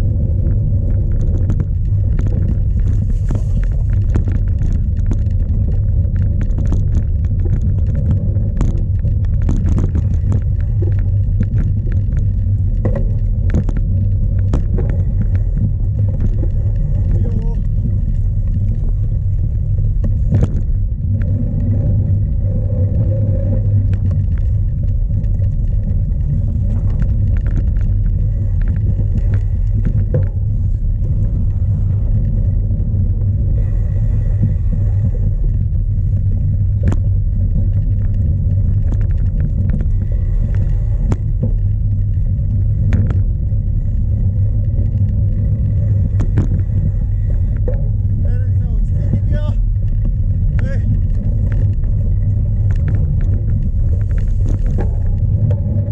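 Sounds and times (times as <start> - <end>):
bike rattling over rough ground: 0.0 - 55.9
wind buffeting microphone: 0.0 - 55.9.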